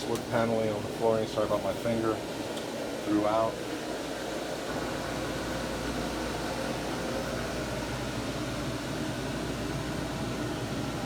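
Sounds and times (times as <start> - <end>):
air conditioning blowing hum: 0.0 - 11.0.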